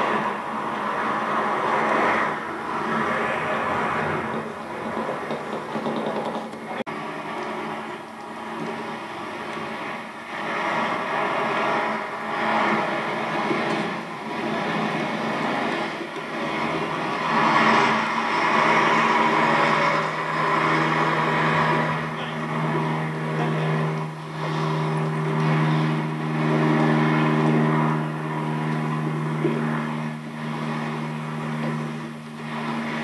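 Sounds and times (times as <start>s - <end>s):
train rumbling on tv speaker: 0.0s - 33.0s.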